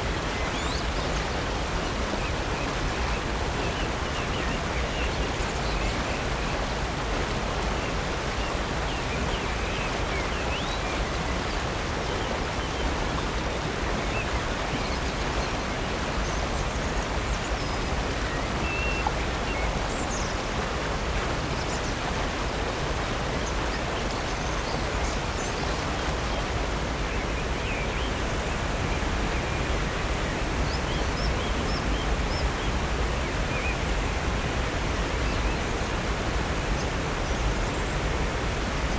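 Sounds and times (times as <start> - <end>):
waterfall and creek rushing: 0.0 - 38.9.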